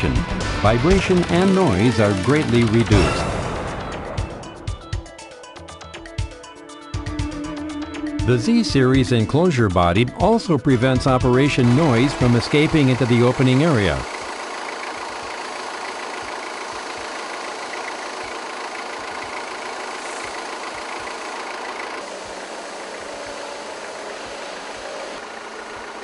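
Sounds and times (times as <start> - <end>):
forklift engine running: 0.0 - 26.0.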